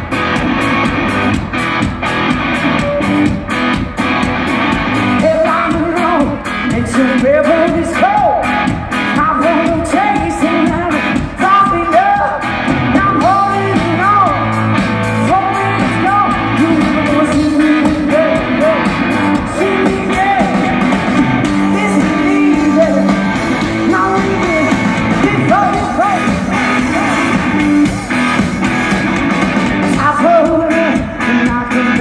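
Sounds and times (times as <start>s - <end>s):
distorted electric guitar: 0.0s - 32.0s
drum kit: 0.0s - 32.0s
person singing: 4.2s - 32.0s.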